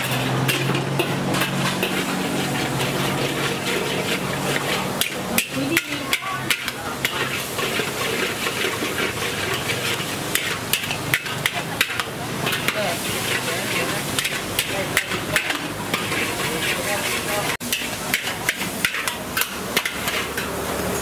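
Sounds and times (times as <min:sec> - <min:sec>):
metal utensils clacking: 0:00.0 - 0:21.0.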